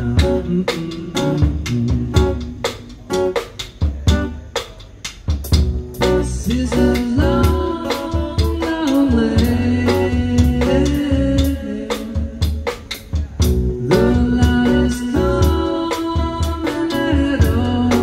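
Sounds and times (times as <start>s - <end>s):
man singing: 0.0s - 3.1s, 6.0s - 18.0s
drum kit beat: 0.0s - 18.0s.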